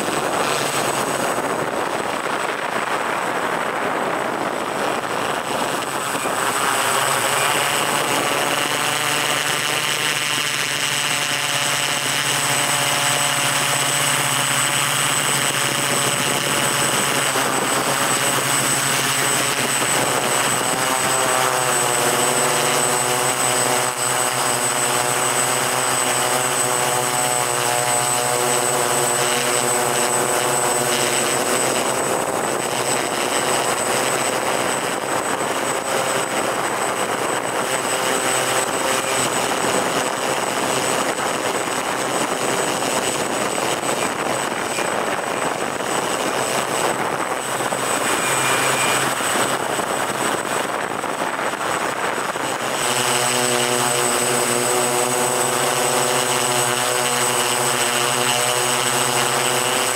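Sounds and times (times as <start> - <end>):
drone motors and propellers buzzing: 0.0 - 59.9.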